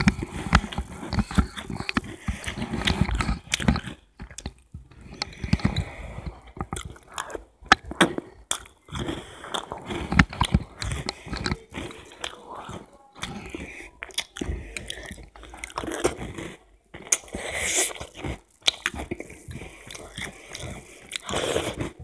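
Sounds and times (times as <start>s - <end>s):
chewing and crunching cereal: 0.0s - 22.0s.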